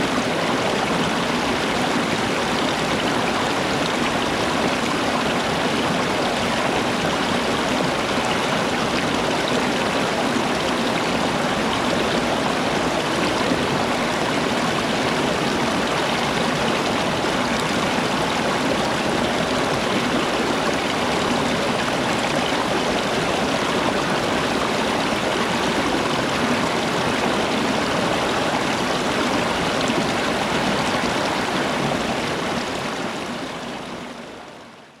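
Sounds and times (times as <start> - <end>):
stream water flowing: 0.0 - 35.0.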